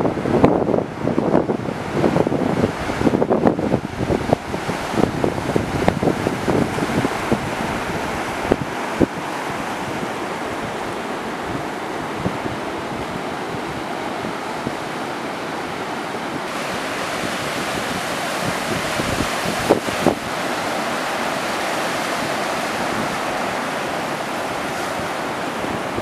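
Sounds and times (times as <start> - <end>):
ocean surf breaking: 0.0 - 26.0
wind on microphone: 0.0 - 26.0.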